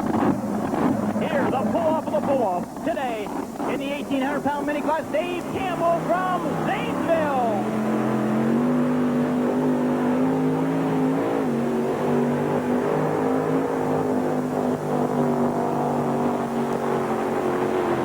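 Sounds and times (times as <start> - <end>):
supercharged tractor engine at full throttle: 0.0 - 18.0.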